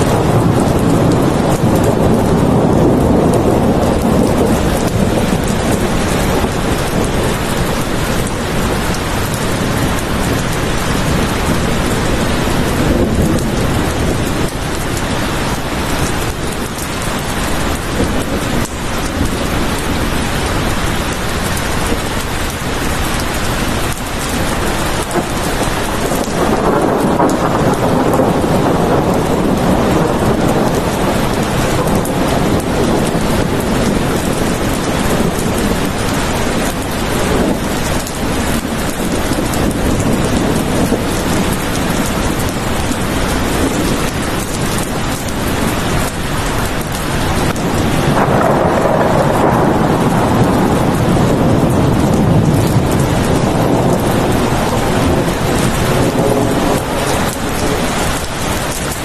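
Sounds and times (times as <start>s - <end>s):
heavy rain: 0.0s - 59.0s
rolling thunder: 0.0s - 59.0s.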